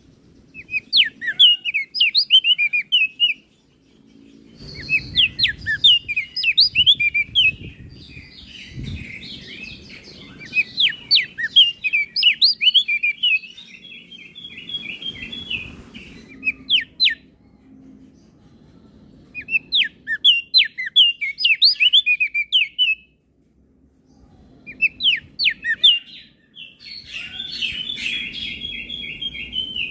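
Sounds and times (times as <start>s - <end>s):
bird twittering high chirps: 0.0s - 23.1s, 24.0s - 29.9s.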